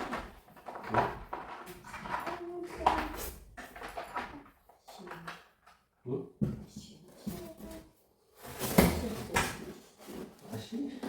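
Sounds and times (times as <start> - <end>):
objects knocking: 0.0 - 5.8, 6.4 - 11.0.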